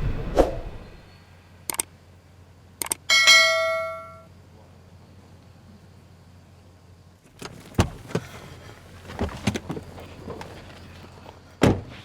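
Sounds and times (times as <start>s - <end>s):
faint steady hum: 0.0s - 11.6s.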